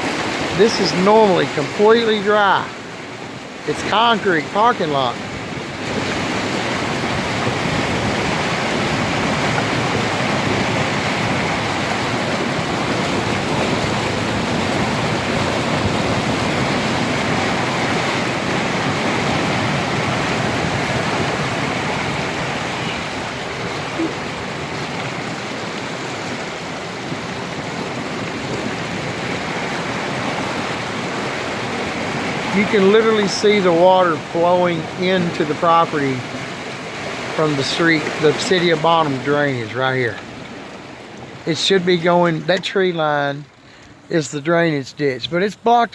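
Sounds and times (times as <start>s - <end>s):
water rushing over concrete: 0.0s - 45.9s.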